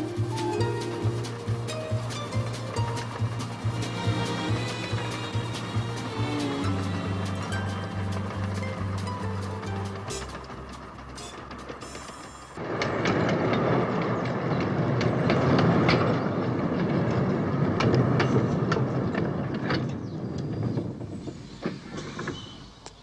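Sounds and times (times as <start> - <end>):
miniature train rumbling on track: 0.0 - 23.0
wheels clicking over rail joints: 0.0 - 23.0.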